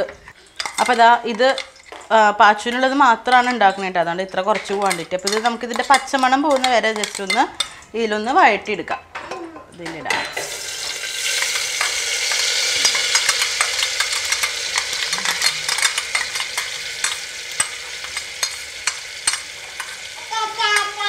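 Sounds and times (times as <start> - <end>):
spoon scraping metal jar: 0.4 - 7.8, 10.5 - 20.2
paste sizzling in hot oil: 0.4 - 7.9, 10.4 - 21.0.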